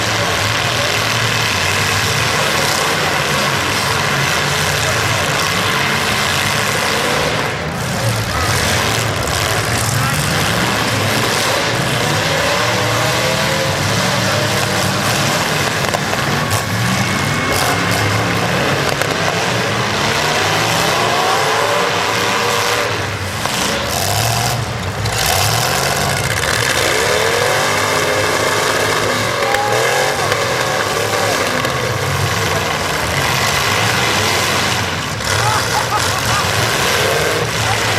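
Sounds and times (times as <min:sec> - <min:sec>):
car engines revving: 0:00.0 - 0:37.9
loud steady din: 0:00.0 - 0:37.9.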